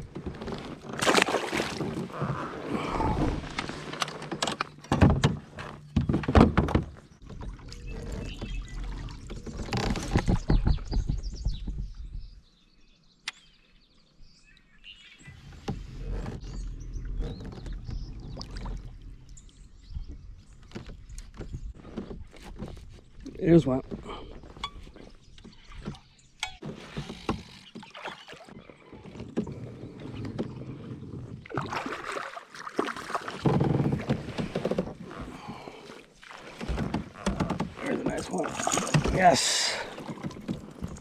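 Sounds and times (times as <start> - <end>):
water splashing against hull: 0.0 - 12.0, 15.4 - 41.0
knocks and clatter on kayak: 0.0 - 12.5, 15.4 - 41.0.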